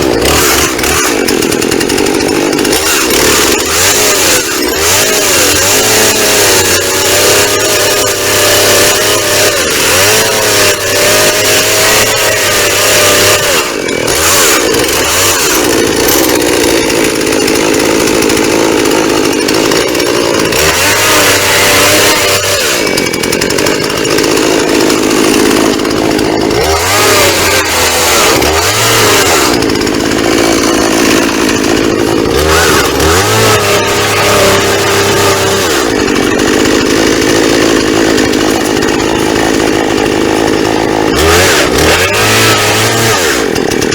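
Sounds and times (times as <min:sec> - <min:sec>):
chainsaw running at high revs: 0:00.0 - 0:43.9.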